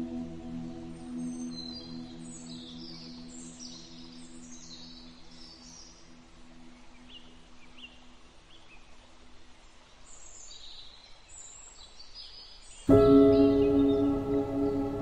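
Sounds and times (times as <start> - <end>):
faint birds chirping: 0.0 - 15.0
low steady ambient tone: 0.0 - 15.0.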